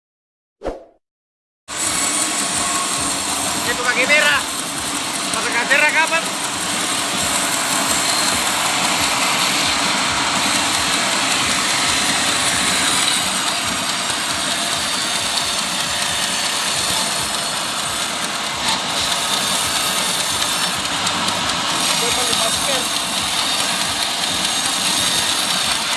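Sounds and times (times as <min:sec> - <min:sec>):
sawmill engine running: 0:01.7 - 0:25.9.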